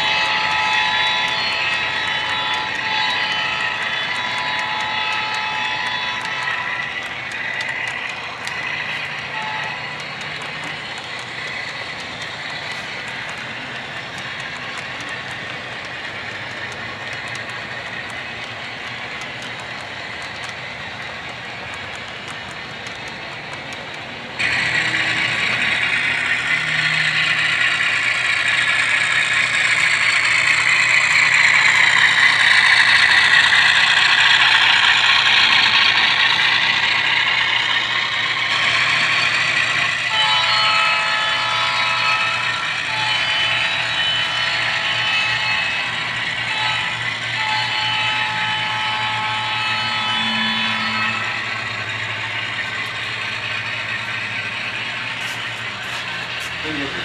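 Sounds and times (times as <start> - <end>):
model train rolling on track: 0.0 - 57.0.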